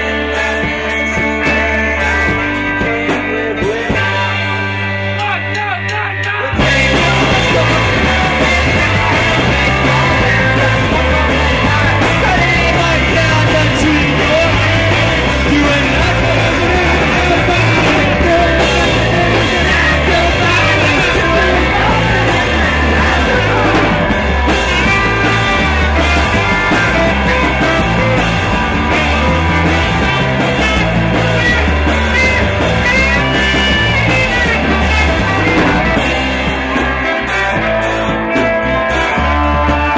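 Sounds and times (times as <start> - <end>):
person singing: 0.0 - 37.8
live rock band playing: 0.0 - 39.9.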